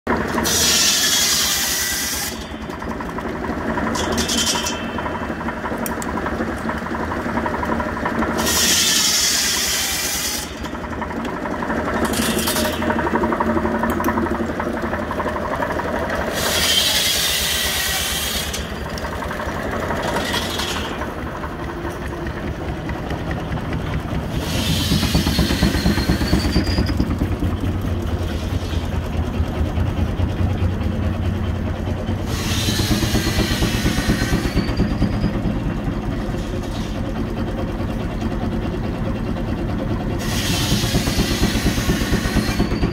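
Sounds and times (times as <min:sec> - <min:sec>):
circular saw whining through wood: 0:00.1 - 0:42.9
steam engine beating: 0:00.1 - 0:42.9.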